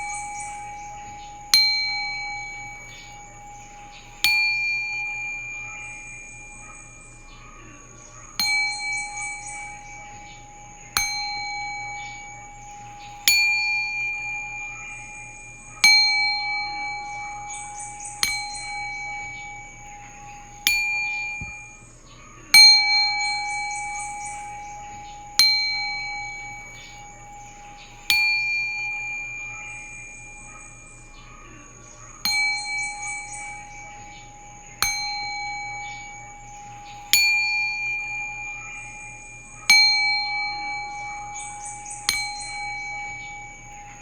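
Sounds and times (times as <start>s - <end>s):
metal singing bowl struck: 0.0s - 21.9s, 22.5s - 44.0s.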